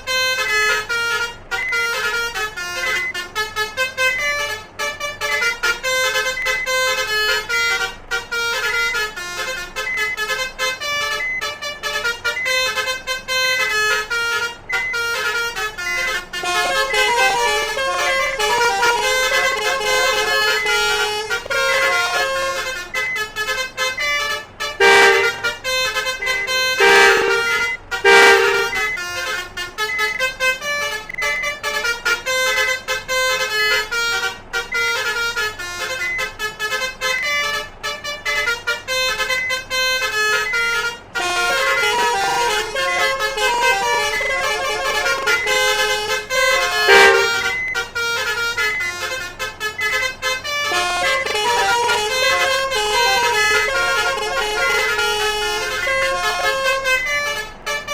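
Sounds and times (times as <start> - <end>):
multi-trumpet bus horn tune: 0.0 - 57.9.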